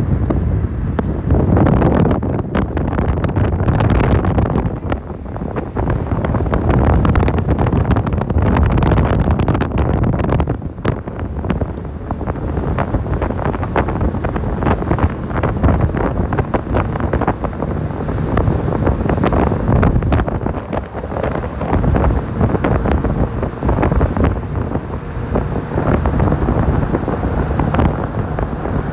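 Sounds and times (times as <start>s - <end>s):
car road noise rumbling: 0.0s - 28.9s
crackles from wind gusts: 0.0s - 28.9s
wind buffeting microphone: 0.0s - 28.9s.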